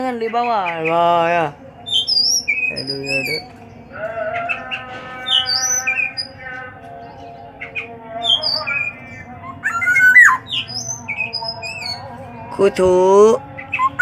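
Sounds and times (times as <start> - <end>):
oriole calling and squawking: 0.0 - 12.1, 13.4 - 14.0
chirping and whistling birdsong: 0.0 - 14.0.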